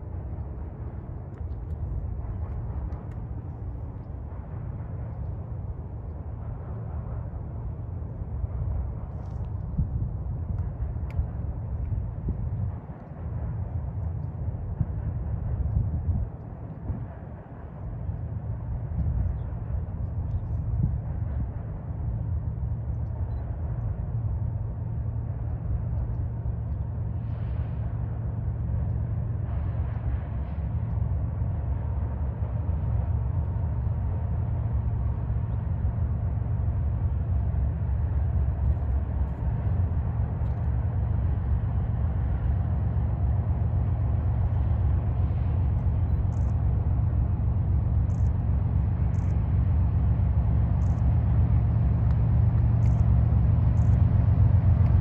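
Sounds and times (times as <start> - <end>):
diesel locomotives rumbling: 0.0 - 55.0.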